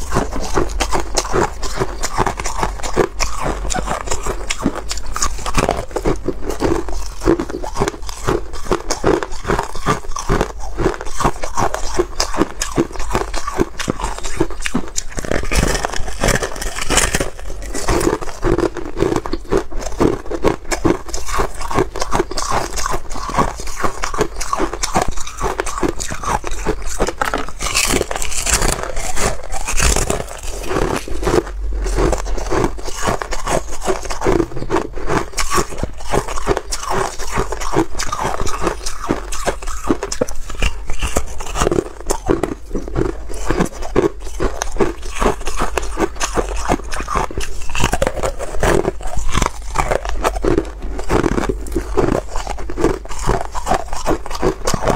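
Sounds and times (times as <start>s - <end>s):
ice being bitten and chewed: 0.0s - 54.9s.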